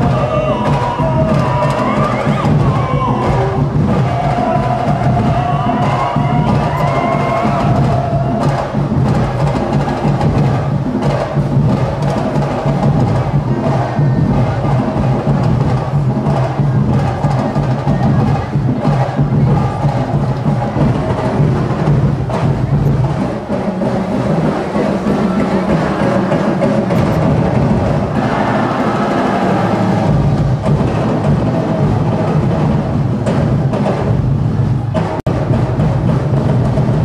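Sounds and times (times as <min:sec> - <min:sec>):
drum corps playing: 0:00.0 - 0:37.0.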